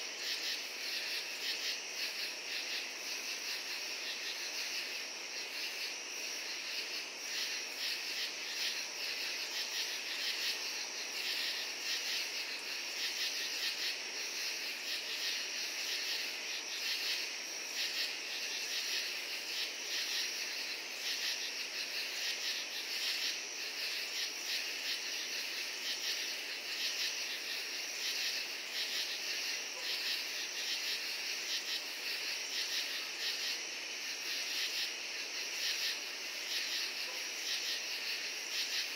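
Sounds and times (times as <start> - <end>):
crickets and katydids chirping: 0.0 - 38.9.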